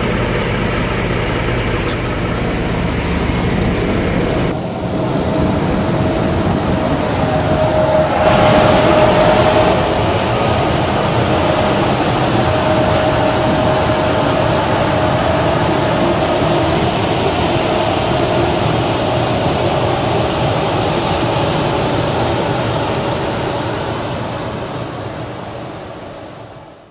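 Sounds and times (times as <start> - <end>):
runway sweeper running with whine: 0.0 - 26.9.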